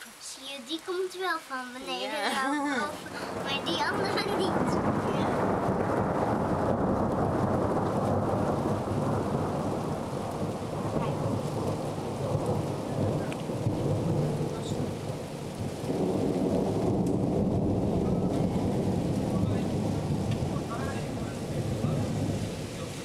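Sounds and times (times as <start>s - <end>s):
heavy rain falling: 0.0s - 23.0s
low rolls of thunder: 2.1s - 23.0s.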